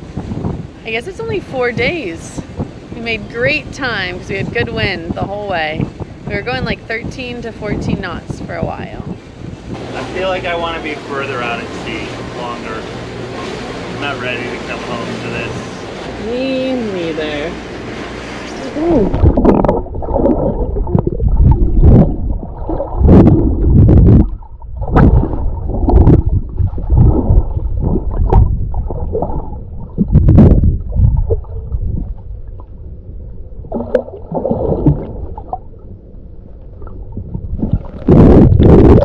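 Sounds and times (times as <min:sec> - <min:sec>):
underwater gurgling and sloshing: 0:00.0 - 0:39.0.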